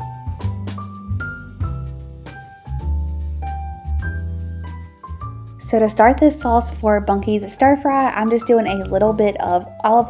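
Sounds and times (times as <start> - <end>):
keyboard melody: 0.0 - 9.0
steady bass line: 0.0 - 9.5.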